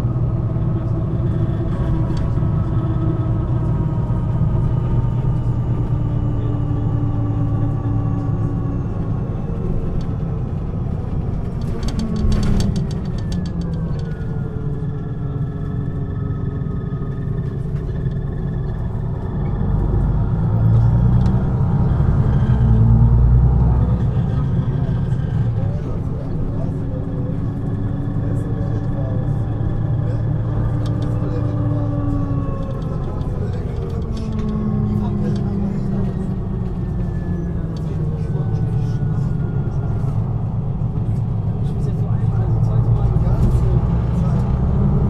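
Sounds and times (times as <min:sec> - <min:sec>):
bus diesel engine running: 0:00.0 - 0:45.0.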